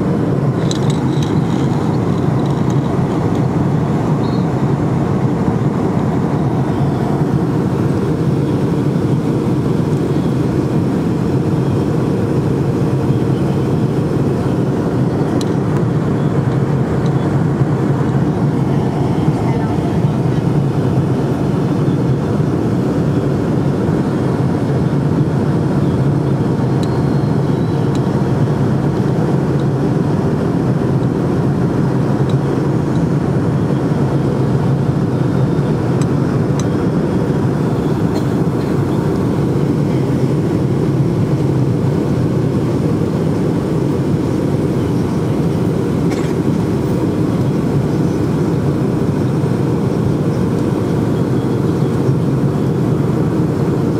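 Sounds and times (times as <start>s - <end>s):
jet engine cabin rumble: 0.0s - 53.9s.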